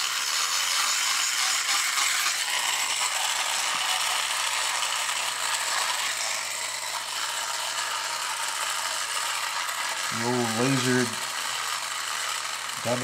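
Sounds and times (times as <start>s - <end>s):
toy gear train whirring: 0.0s - 13.0s.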